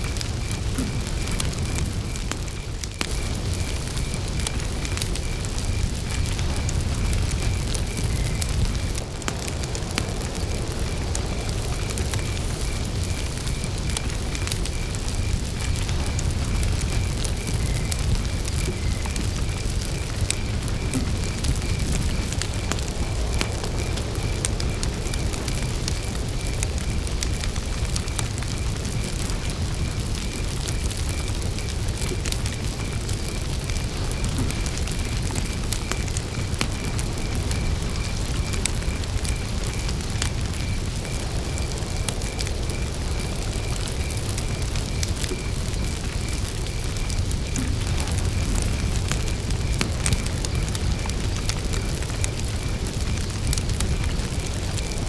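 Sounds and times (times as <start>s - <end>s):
campfire crackling: 0.0s - 55.0s
cricket chirping: 0.0s - 55.0s.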